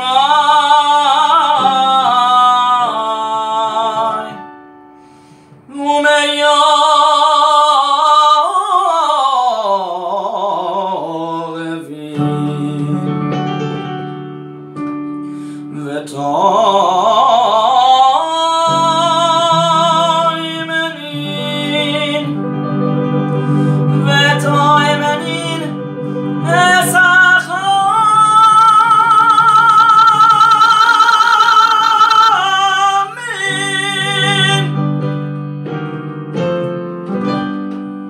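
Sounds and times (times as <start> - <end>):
man singing chant with vibrato: 0.0 - 4.5, 5.7 - 13.3, 15.7 - 22.6, 23.3 - 34.9
piano chords: 0.0 - 38.0.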